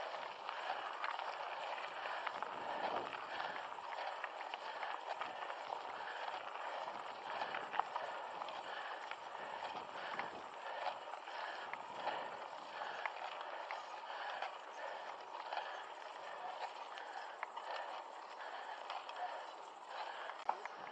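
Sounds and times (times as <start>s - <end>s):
bike tyres crunching over dirt: 0.0s - 20.9s
rider breathing hard: 0.0s - 20.9s.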